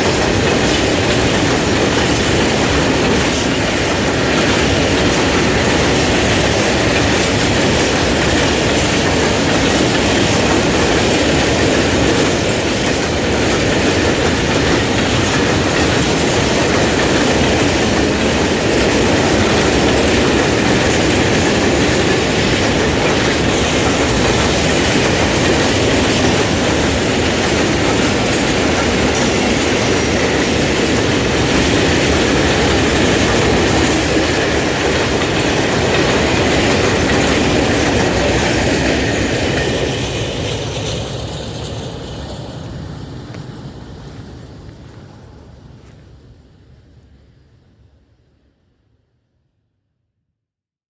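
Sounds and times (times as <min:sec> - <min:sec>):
train wheels on rails: 0:00.0 - 0:48.6.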